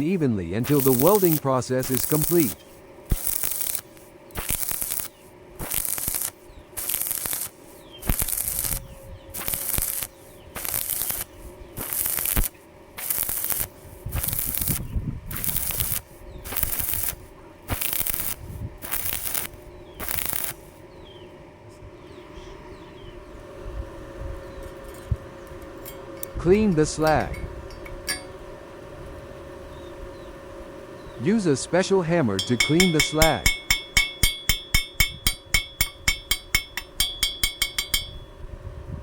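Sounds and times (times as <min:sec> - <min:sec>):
welding arc crackling: 0:00.0 - 0:20.8, 0:24.6 - 0:38.0.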